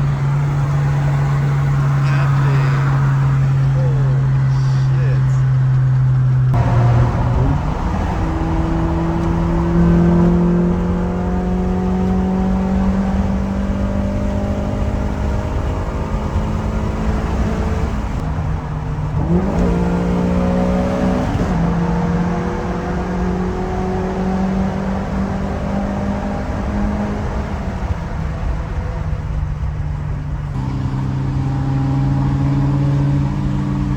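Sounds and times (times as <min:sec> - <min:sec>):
car engine revving under load: 0:00.0 - 0:33.9.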